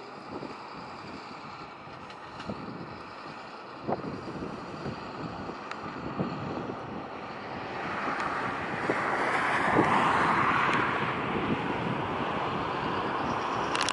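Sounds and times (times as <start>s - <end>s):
road noise: 0.0s - 13.9s.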